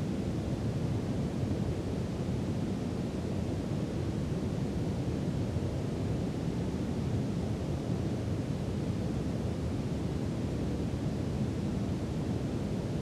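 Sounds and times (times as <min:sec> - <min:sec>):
brown noise hiss: 0:00.0 - 0:13.0.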